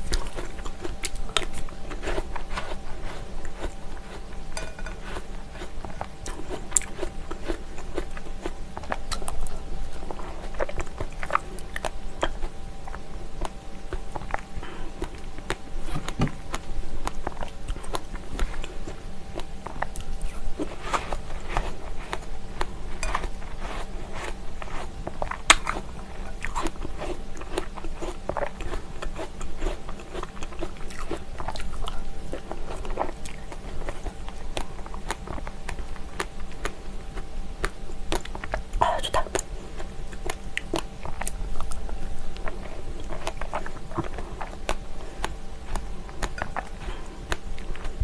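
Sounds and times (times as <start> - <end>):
close chewing and wet smacks: 0.0 - 48.0.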